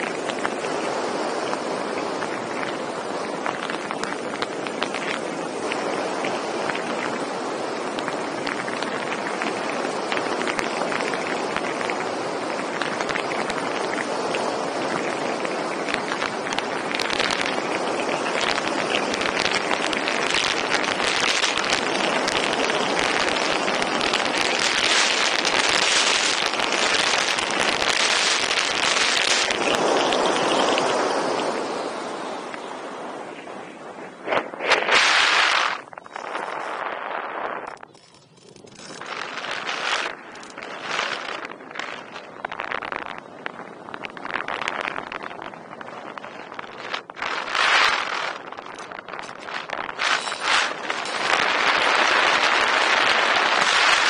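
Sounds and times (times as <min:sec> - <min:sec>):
wind buffeting the microphone: 0:00.0 - 0:54.0.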